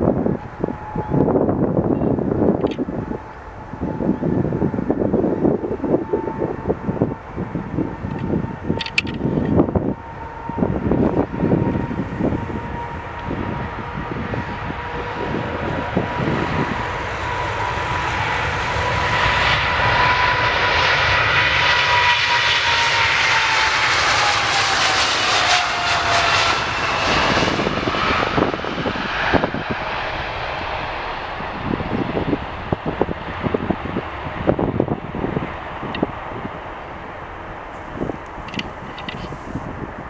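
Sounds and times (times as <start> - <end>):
jet airliner passing by: 0.0 - 40.0
wind buffeting microphone: 0.0 - 40.0.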